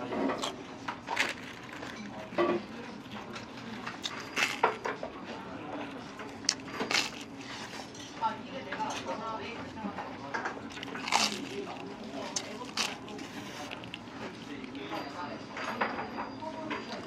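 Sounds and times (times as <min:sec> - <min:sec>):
low background murmur: 0:00.0 - 0:17.0.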